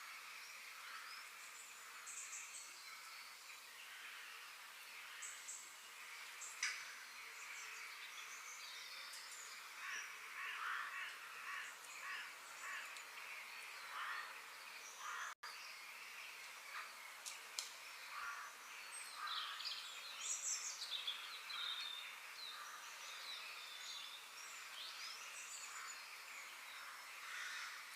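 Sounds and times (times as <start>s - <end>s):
birds chirping and trilling: 0.0s - 27.9s
steady background hiss: 0.0s - 27.9s.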